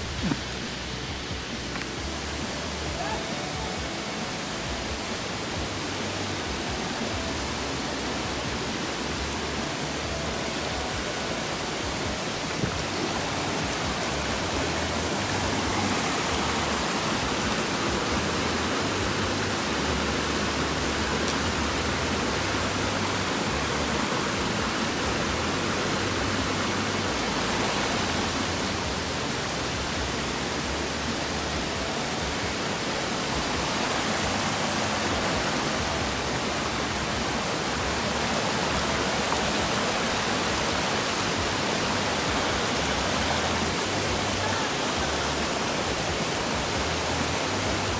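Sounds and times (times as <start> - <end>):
rushing stream water: 0.0 - 47.9.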